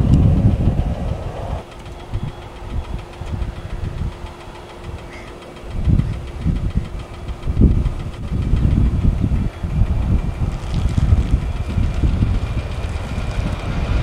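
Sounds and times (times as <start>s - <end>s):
jet engines running at low power: 0.0s - 14.0s.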